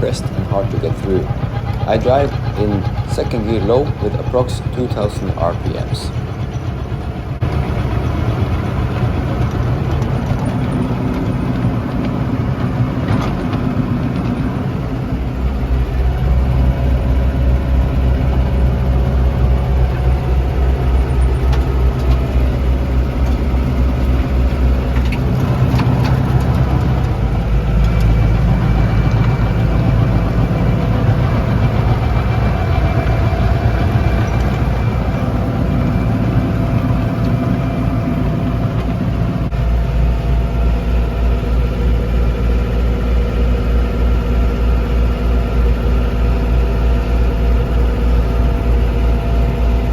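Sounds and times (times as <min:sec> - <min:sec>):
snowblower through hard snow: 0:00.0 - 0:49.9
tractor diesel engine under load: 0:00.0 - 0:49.9.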